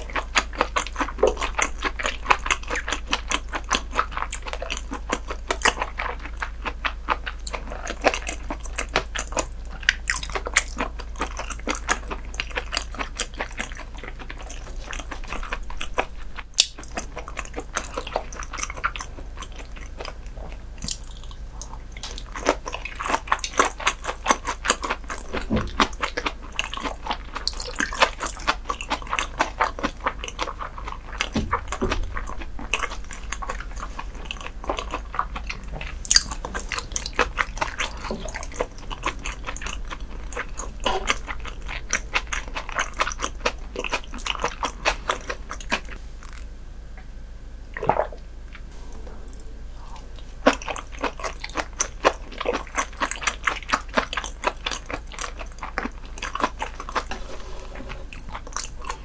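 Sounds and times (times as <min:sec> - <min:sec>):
chewing fish: 0:00.0 - 0:46.5, 0:47.7 - 0:59.0.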